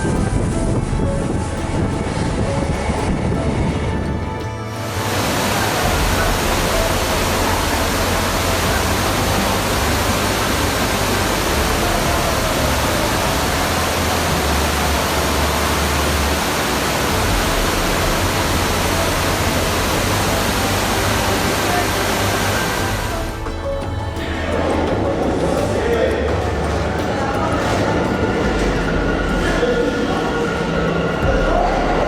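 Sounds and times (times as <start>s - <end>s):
low rumble: 0.0s - 32.0s
steady rushing noise: 0.0s - 32.0s.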